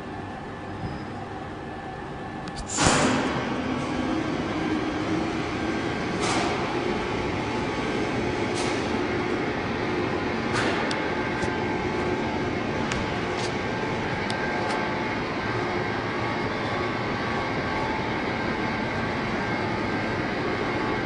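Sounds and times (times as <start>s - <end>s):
lathe machine hum: 3.0s - 21.0s.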